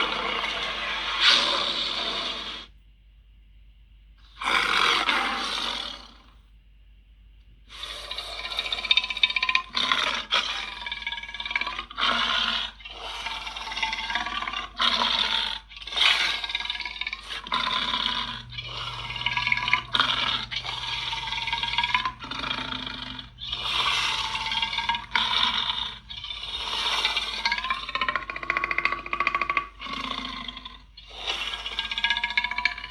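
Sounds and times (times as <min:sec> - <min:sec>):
low steady hum: 0:02.7 - 0:04.4, 0:06.0 - 0:32.9.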